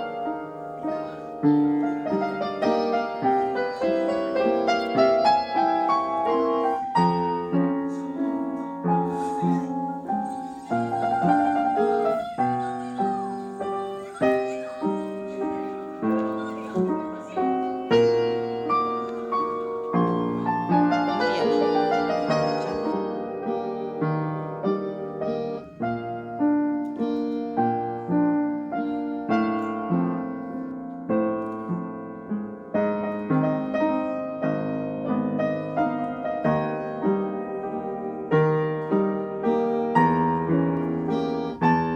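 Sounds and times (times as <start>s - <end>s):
gentle piano melody: 0.0s - 41.9s.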